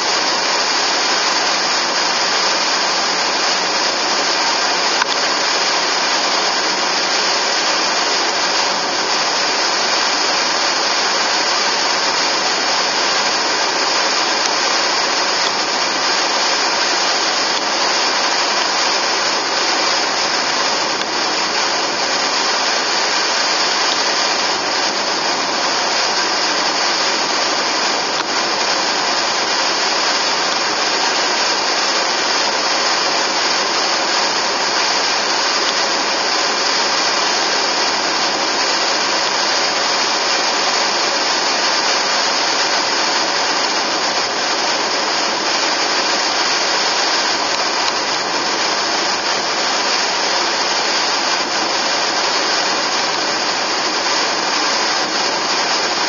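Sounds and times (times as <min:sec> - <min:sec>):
high hiss: 0:00.0 - 0:56.0.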